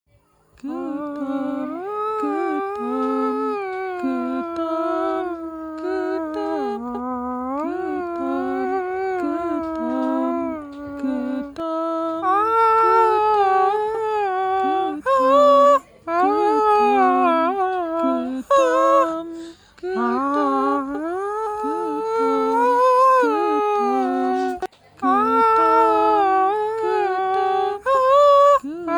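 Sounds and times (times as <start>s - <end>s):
person humming mournful melody: 0.6s - 28.9s.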